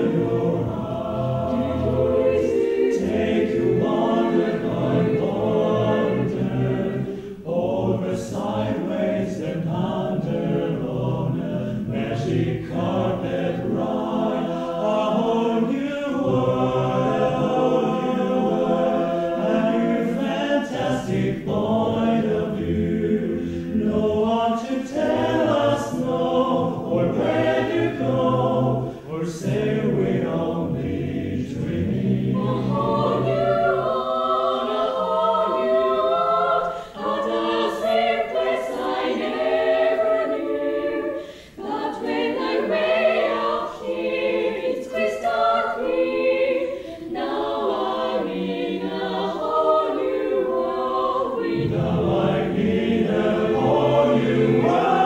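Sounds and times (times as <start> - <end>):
chorus singing a cappella: 0.0 - 55.0.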